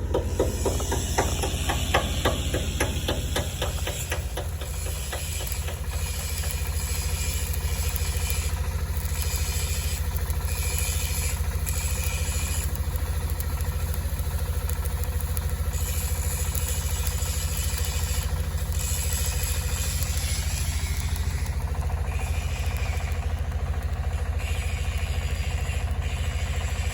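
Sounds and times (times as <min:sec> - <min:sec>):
engine running steadily: 0:00.0 - 0:26.9.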